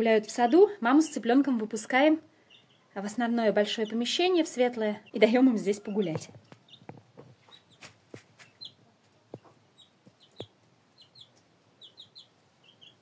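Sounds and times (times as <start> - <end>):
chick peeping: 0.0 - 13.0.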